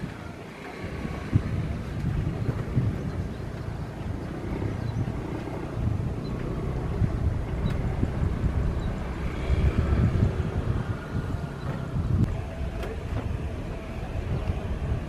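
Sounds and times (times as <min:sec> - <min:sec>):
distant jet engines rumbling: 0:00.0 - 0:15.0
wind gusting on microphone: 0:00.0 - 0:15.0.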